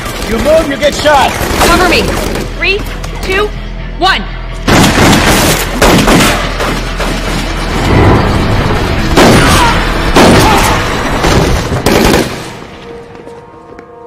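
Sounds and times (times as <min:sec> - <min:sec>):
dramatic music: 0:00.0 - 0:14.0.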